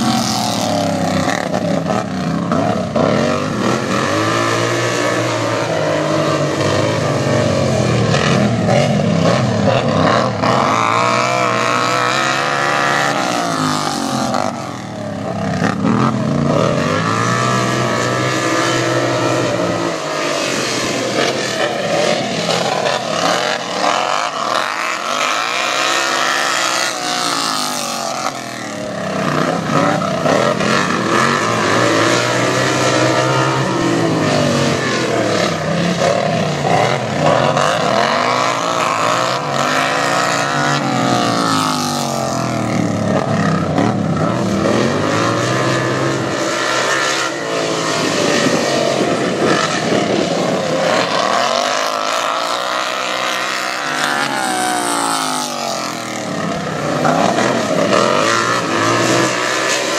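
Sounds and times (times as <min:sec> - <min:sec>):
racing lawn tractor engines: 0:00.0 - 0:59.9.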